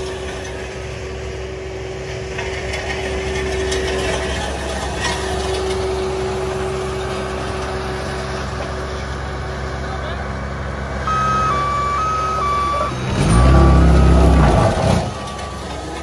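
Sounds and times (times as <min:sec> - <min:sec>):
paving machinery whining: 0:00.0 - 0:16.0.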